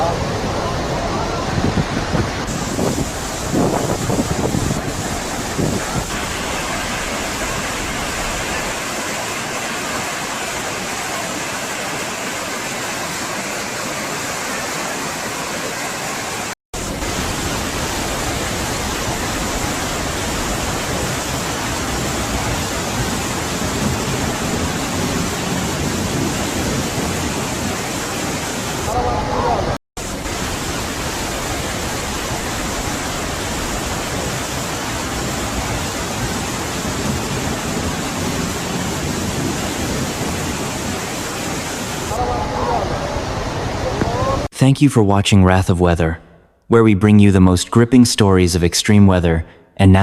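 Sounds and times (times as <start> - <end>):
floodwater rushing: 0.0 - 44.5.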